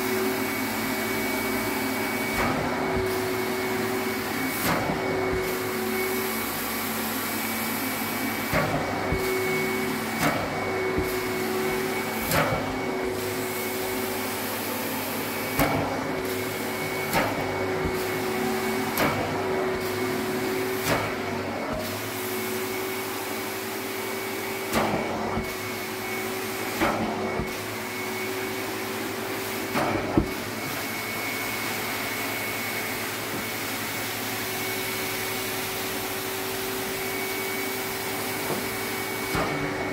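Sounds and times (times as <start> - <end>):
carpet extraction vacuum whining: 0.0 - 39.9.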